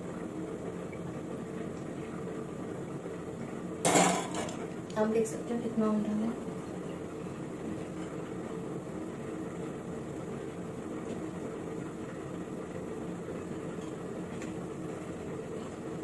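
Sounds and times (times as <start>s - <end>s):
machine-like hum and hiss: 0.0s - 16.0s.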